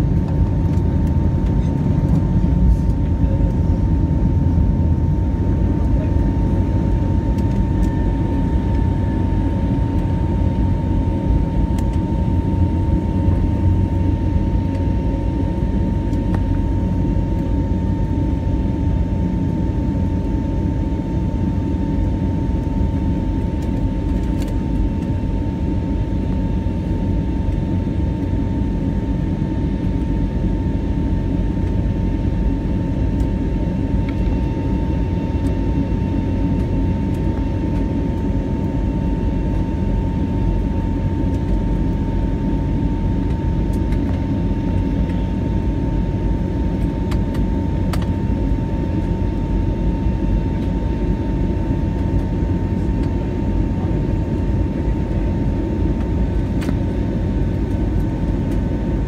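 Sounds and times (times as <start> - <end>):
jet cabin engine rumble and whine: 0.0 - 59.0.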